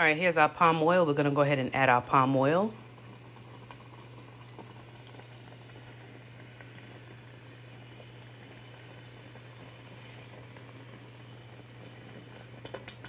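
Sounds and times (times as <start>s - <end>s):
stew bubbling and popping: 0.0s - 13.0s.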